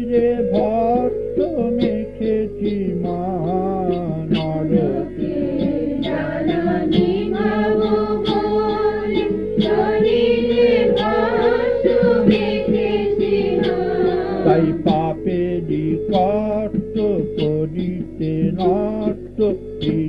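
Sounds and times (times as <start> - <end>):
devotional singing: 0.0 - 20.0
held accompanying notes: 0.0 - 20.0
percussive strikes: 0.5 - 19.2.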